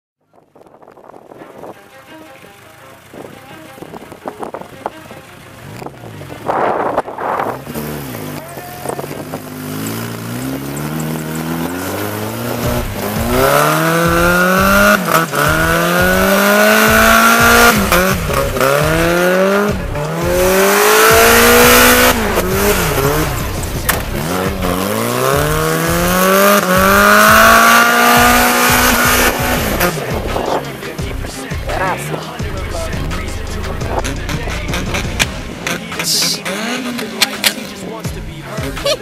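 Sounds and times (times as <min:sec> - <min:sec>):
car engine revving: 0:01.1 - 0:39.0.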